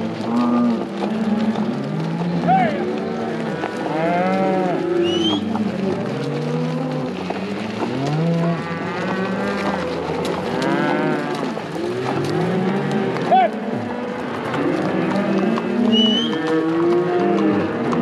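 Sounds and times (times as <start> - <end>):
cattle mooing and bawling: 0.0 - 18.0.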